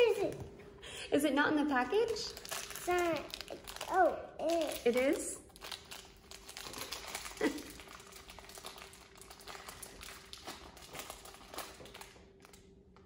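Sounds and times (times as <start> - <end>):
plastic packet crinkling: 1.7 - 12.7.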